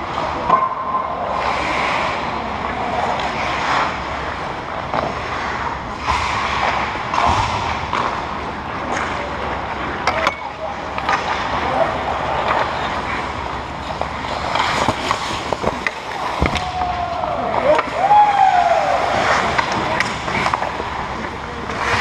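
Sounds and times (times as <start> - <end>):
steady background noise: 0.0 - 22.0
skate blades scraping ice: 1.2 - 10.0, 10.7 - 22.0.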